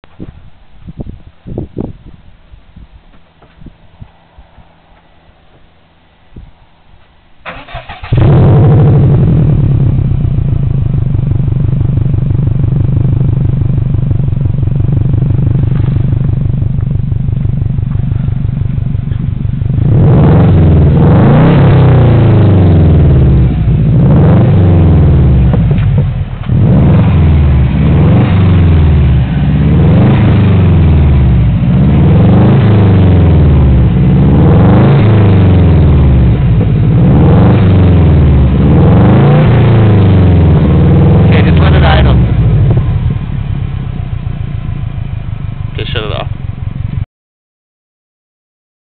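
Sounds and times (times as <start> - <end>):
car engine idling and revving: 3.1 - 47.0
car engine starting: 3.8 - 47.0.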